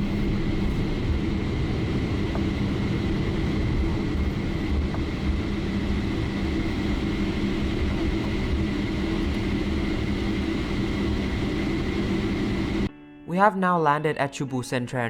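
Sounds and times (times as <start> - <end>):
airplane cabin engine drone: 0.0 - 12.9
faint high whine: 0.0 - 12.9.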